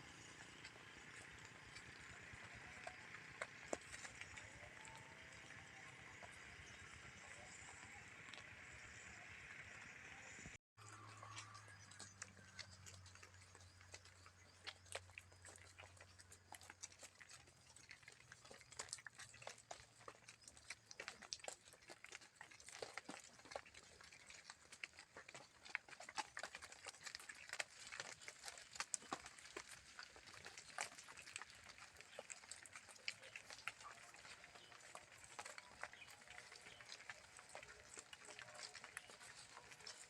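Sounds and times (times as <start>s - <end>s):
cattle hooves on road: 0.0s - 40.0s.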